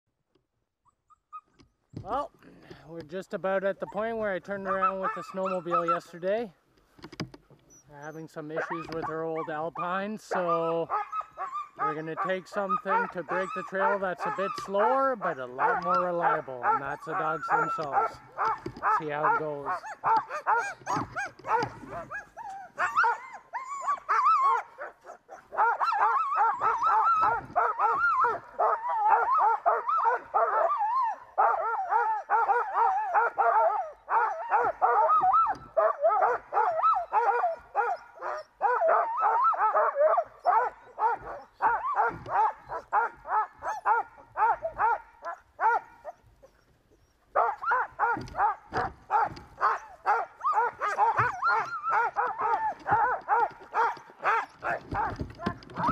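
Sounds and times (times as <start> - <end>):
sled dogs barking and yelping: 0.9 - 55.9.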